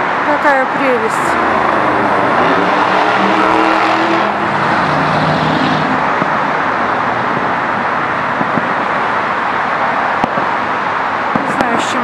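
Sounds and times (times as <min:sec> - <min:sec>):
cars passing on city street: 0:00.0 - 0:12.0.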